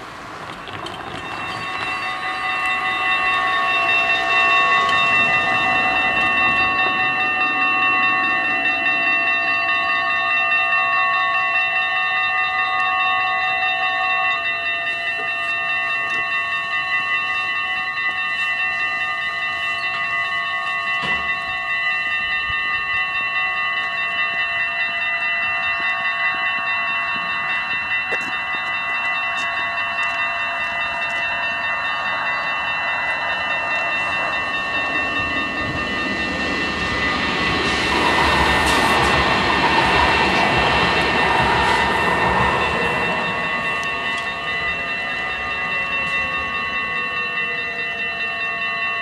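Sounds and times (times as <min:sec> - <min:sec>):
level crossing bells ringing: 0:00.0 - 0:49.0.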